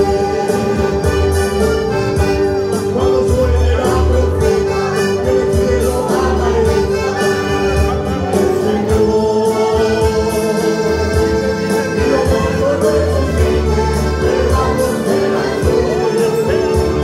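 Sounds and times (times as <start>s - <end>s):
church band playing worship music: 0.0s - 17.0s.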